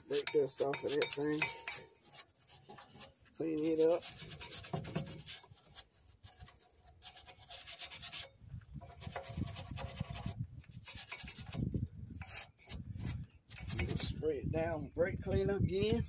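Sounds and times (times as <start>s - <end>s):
wire brush scrubbing metal: 0.0s - 14.3s.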